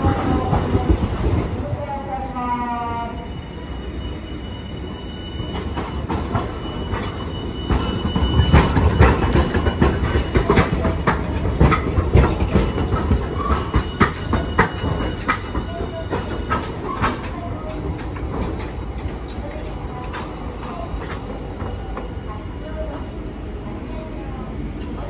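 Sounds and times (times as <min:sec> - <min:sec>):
wheels clacking over rail joints: 0:00.0 - 0:03.5, 0:04.7 - 0:23.6
tram rolling past: 0:00.0 - 0:25.0.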